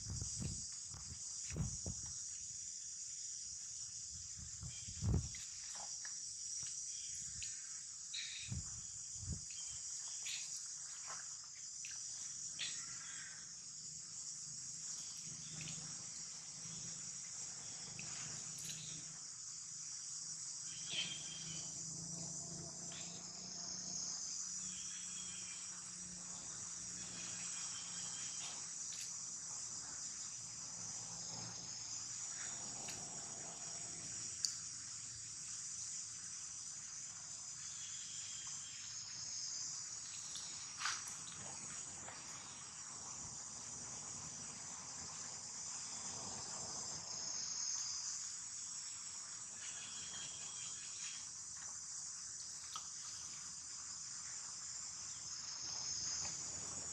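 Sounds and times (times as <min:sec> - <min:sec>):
insects shrilling: 0:00.0 - 0:56.9.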